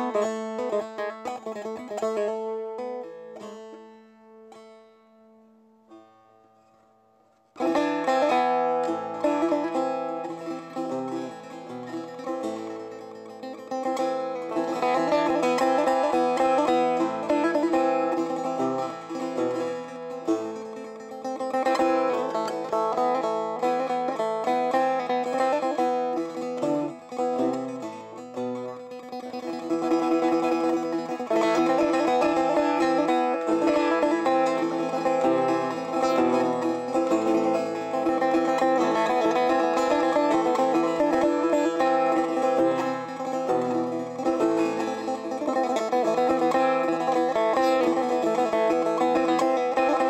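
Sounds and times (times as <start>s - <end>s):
plucked string instrument music: 0.0s - 50.0s.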